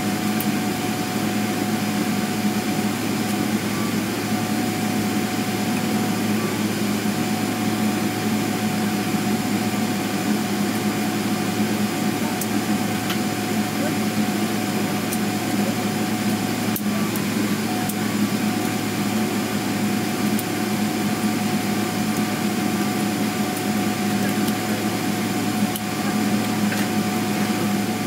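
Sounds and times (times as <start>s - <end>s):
airplane cabin hum: 0.0s - 28.0s.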